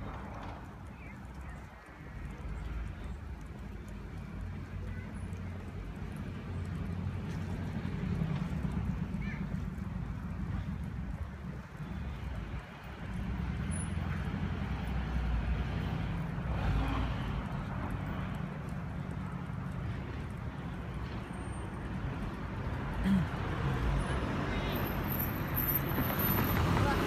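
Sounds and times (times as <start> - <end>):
city road traffic rumble: 0.0 - 27.0.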